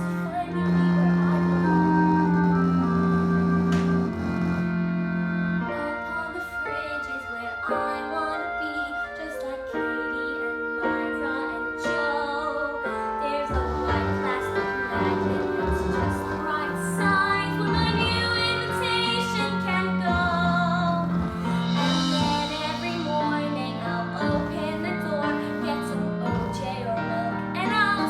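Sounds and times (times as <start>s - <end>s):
person singing: 0.0s - 4.6s, 5.8s - 28.0s
piano accompaniment: 0.0s - 28.0s.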